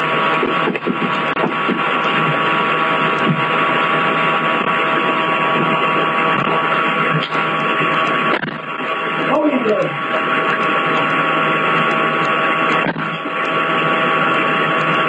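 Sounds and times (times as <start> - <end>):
loud distorted microphone noise: 0.0 - 15.0.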